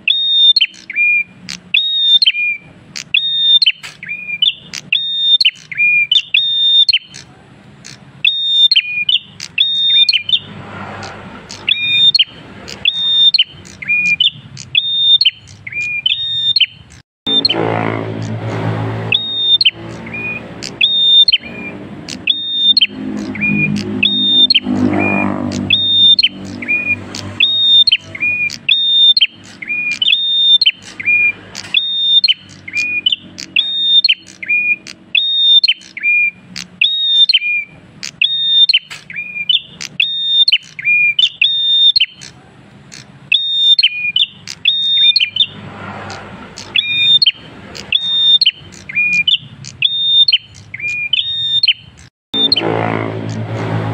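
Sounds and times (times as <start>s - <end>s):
bird whistling song: 0.0s - 17.6s, 18.2s - 52.7s.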